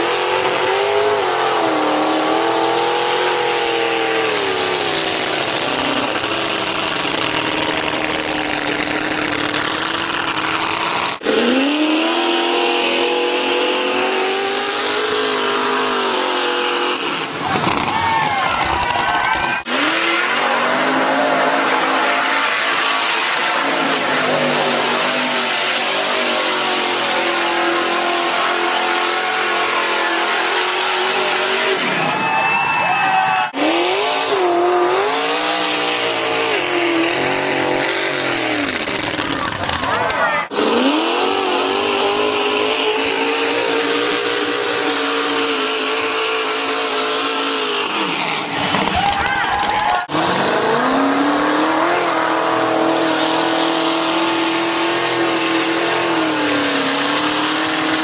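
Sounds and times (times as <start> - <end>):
truck engine revving hard: 0.0 - 58.0.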